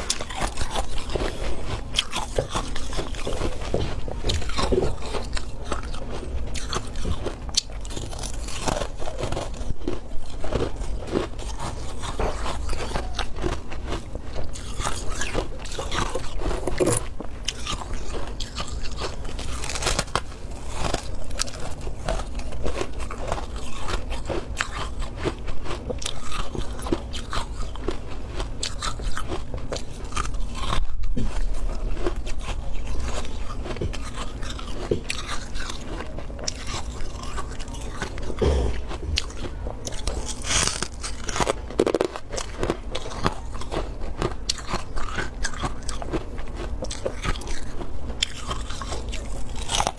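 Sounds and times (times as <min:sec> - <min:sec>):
chewing crunchy frost: 0:00.0 - 0:49.9.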